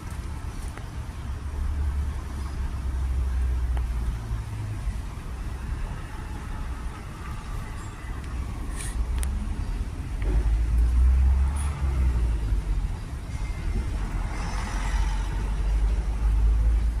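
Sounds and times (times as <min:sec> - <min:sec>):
faint street noise: 0:00.0 - 0:17.0
vehicle engine rumbling: 0:00.0 - 0:17.0.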